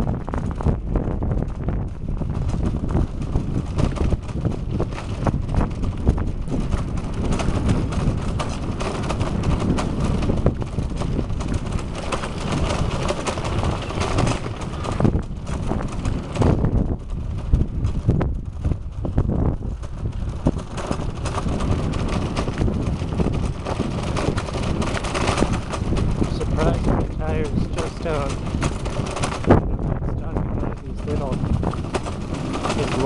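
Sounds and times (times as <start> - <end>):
bicycle rattling and clicking: 0.0 - 33.0
wind buffeting microphone: 0.0 - 33.0.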